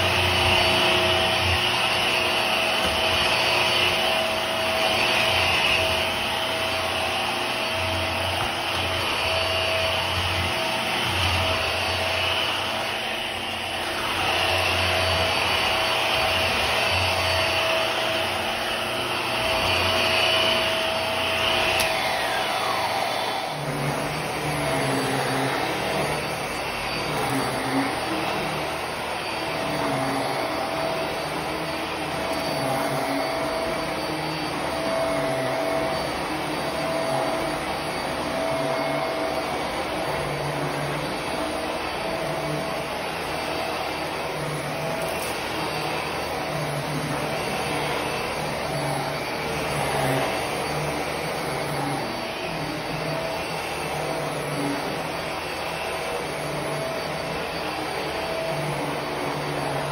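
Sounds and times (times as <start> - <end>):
upright vacuum running: 0.0 - 59.9.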